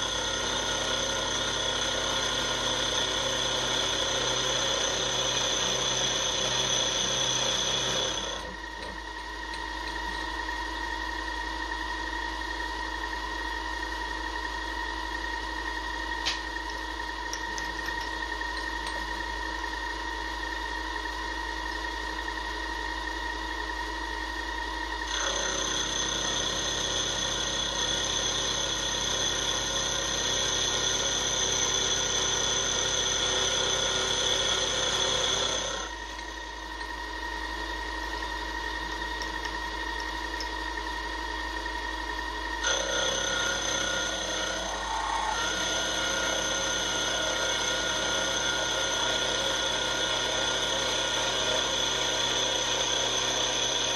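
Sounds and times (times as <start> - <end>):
end mill cutting metal: 0.0 - 12.8, 16.2 - 20.8, 25.0 - 53.9
milling machine spindle whine: 0.0 - 53.9.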